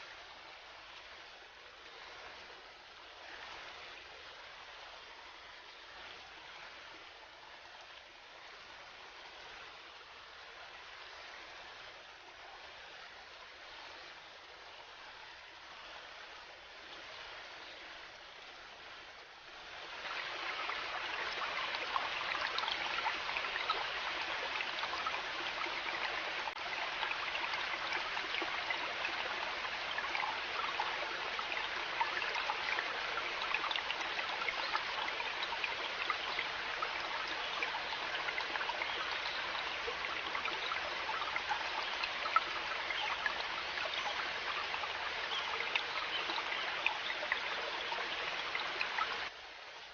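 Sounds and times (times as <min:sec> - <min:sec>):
river water babbling over stones: 0:00.0 - 0:49.9.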